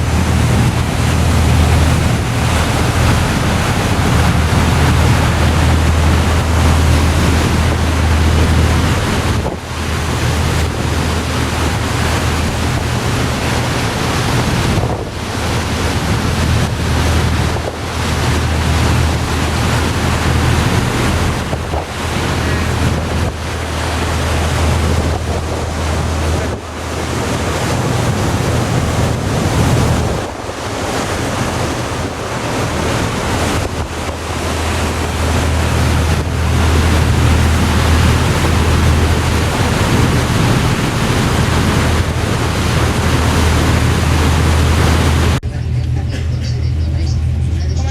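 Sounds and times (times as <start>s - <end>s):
wind buffeting microphone: 0.0s - 45.5s
low ship engine drone: 0.0s - 47.9s
rush of the sea: 0.0s - 47.9s.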